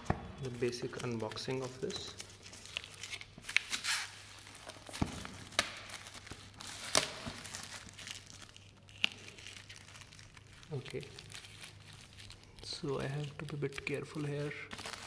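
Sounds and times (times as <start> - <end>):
plastic shrink-wrap tearing and crinkling: 0.4 - 15.0.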